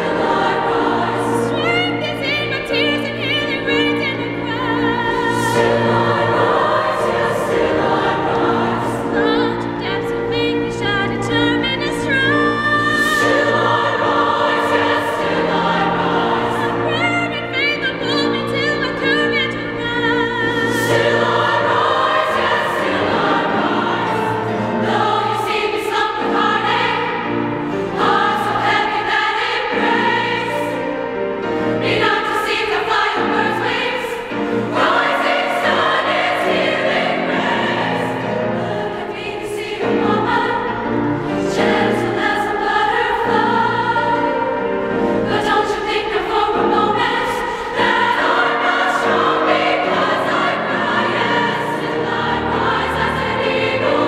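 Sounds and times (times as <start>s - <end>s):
girls' choir singing: 0.0s - 54.0s.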